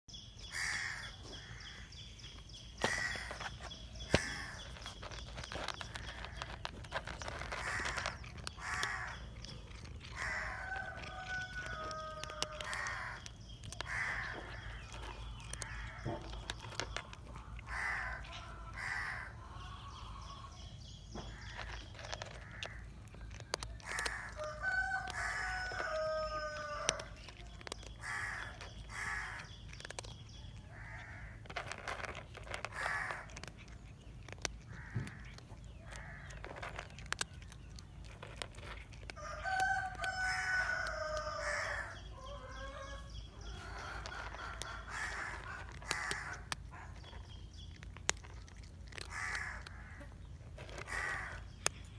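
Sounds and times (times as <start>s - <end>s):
birds calling: 0.1s - 51.9s
cat crunching dry kibble: 0.2s - 51.9s.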